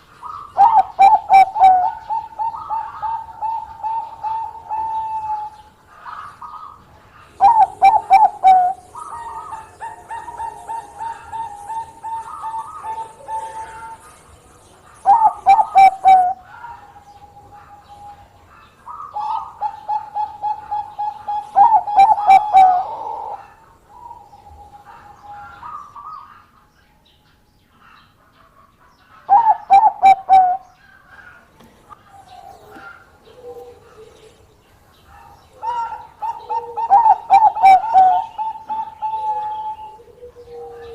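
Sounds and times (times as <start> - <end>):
dove cooing: 0.0 - 26.5, 28.4 - 40.9.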